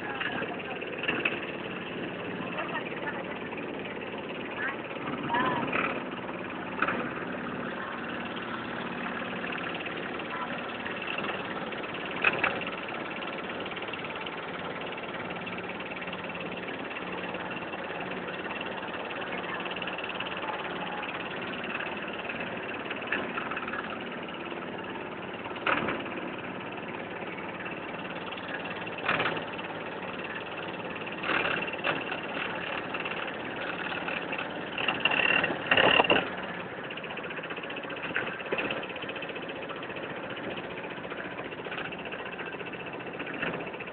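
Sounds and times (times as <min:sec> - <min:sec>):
motorboat engine running: 0:00.0 - 0:43.9.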